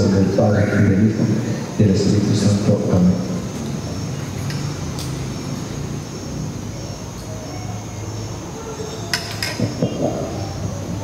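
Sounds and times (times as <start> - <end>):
low hall hum: 0.0 - 11.0.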